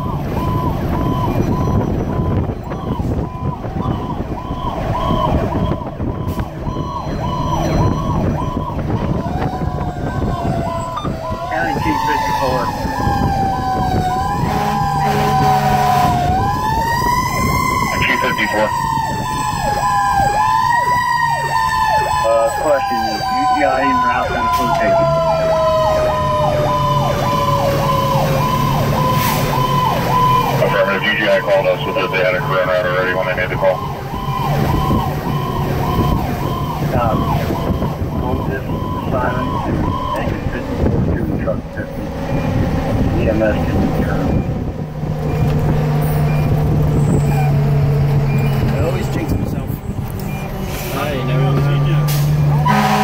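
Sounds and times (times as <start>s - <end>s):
engine and road rumble: 0.0s - 53.0s
fire engine siren yelping: 0.0s - 53.0s.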